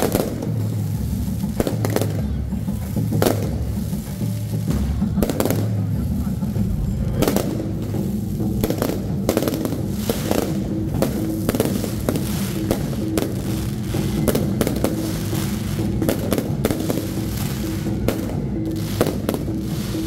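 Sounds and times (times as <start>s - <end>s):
fireworks cracks and bangs: 0.0s - 20.0s.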